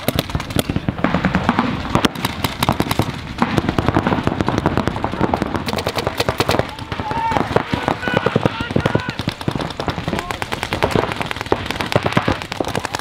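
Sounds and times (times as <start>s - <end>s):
paintball markers firing rapidly: 0.0s - 13.0s.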